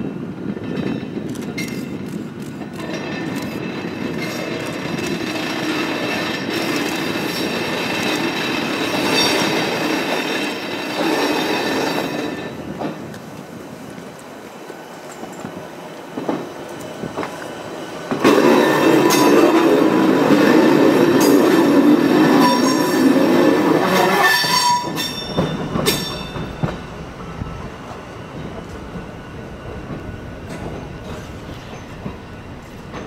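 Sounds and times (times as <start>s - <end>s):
electric train rolling past: 0.0s - 33.0s.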